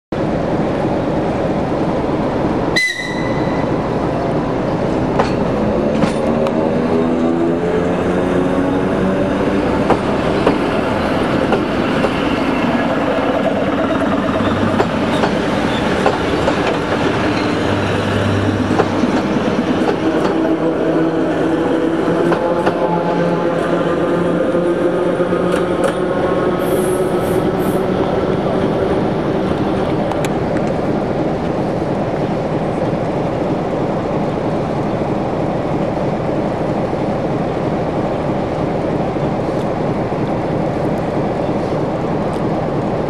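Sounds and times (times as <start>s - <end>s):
train running noise: 0.2s - 43.0s.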